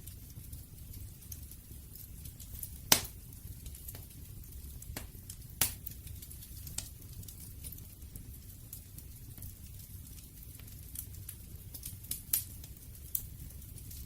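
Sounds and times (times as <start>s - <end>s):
low rumble of flames: 0.0s - 14.0s
sharp pops from fire: 0.0s - 14.0s
wood fire crackling: 0.0s - 14.0s.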